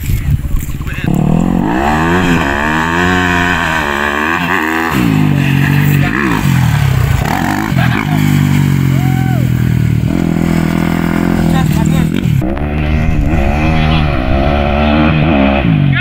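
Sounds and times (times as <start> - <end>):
motocross bike engine revving: 0.9 - 16.0.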